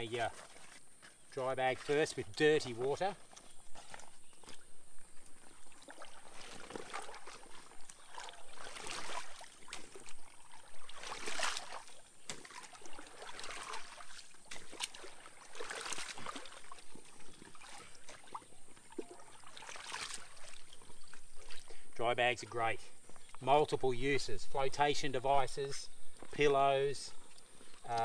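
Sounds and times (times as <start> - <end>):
water sloshing and splashing: 0.0 - 23.4, 25.4 - 28.0.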